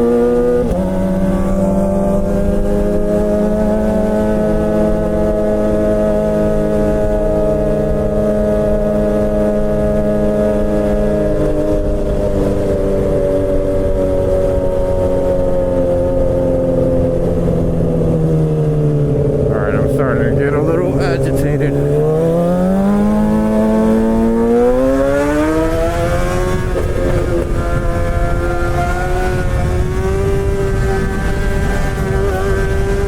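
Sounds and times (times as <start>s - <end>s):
motorcycle engine at high revs: 0.0s - 33.0s.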